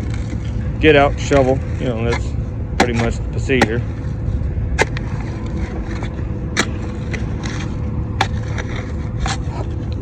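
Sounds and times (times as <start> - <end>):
bucket scraping dirt and stones: 0.0 - 9.8
excavator engine with hydraulic whine: 0.0 - 10.0.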